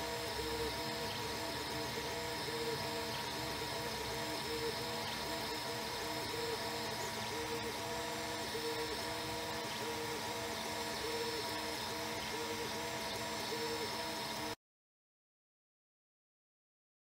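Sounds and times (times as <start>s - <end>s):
steady hum: 0.0s - 14.6s
stepper motors whining: 0.0s - 14.6s.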